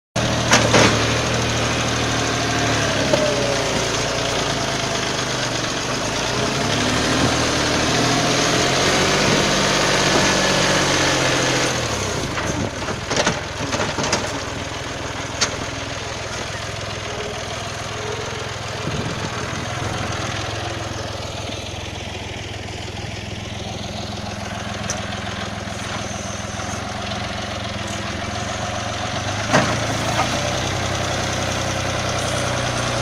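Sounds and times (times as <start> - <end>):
vehicle engine running: 0.2 - 33.0.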